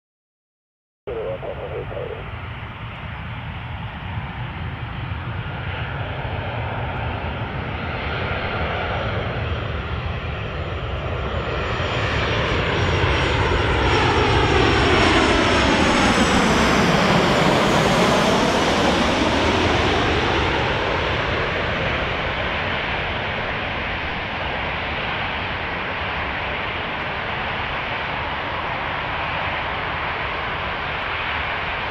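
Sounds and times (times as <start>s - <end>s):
jet engines passing by: 1.1s - 31.9s.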